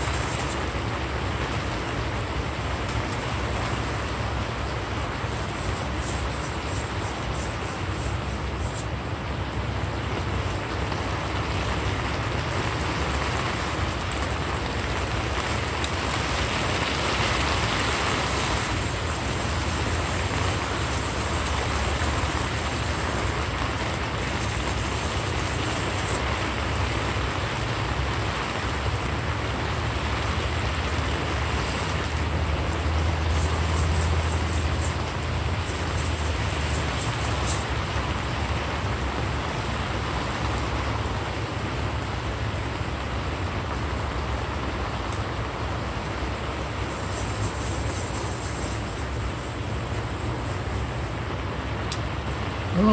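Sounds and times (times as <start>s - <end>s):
steady rushing noise: 0.0s - 52.9s.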